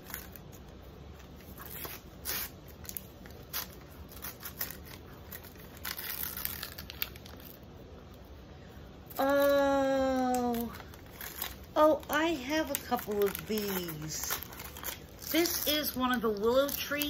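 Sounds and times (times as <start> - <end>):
wrapping paper tearing: 0.0 - 7.7, 9.1 - 17.0.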